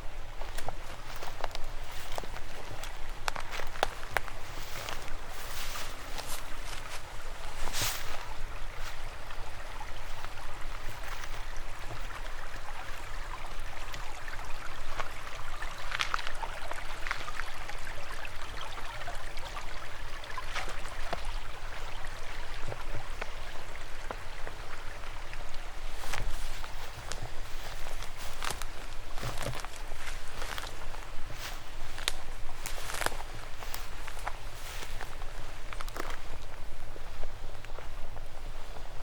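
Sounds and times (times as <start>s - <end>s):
stream water flowing: 0.0s - 39.0s.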